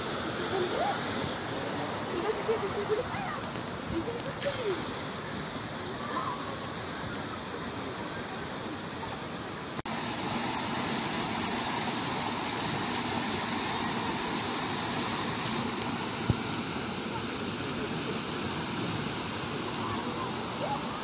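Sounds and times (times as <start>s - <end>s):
water flowing in a canal: 0.0s - 21.0s.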